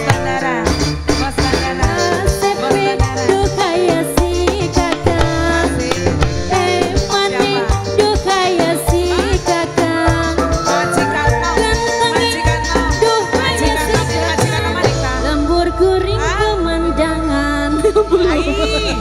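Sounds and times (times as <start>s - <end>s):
steady drum beat: 0.0s - 15.7s
live band music: 0.0s - 19.0s.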